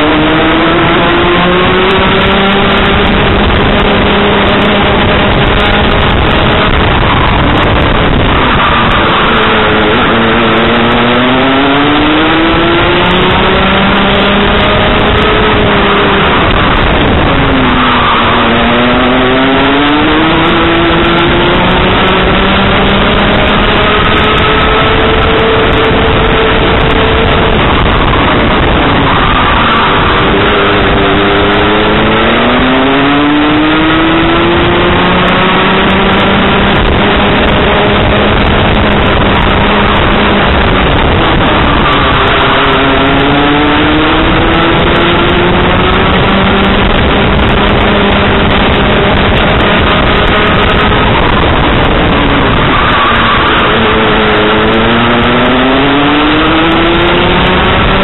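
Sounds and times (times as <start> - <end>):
kart engine racing: 0.0 - 58.0
steady rush of noise: 0.0 - 58.0.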